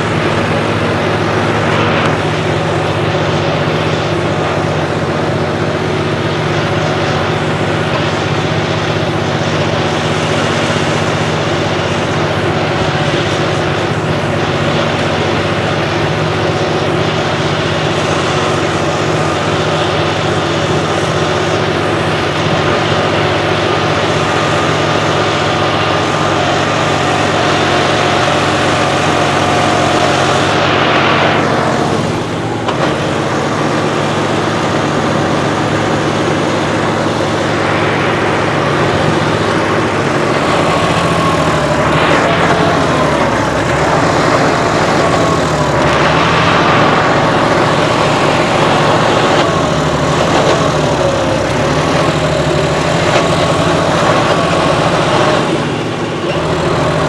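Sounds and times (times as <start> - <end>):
high whine sweeping downward: 0.0 - 57.0
tractor engine running under load: 0.0 - 57.0.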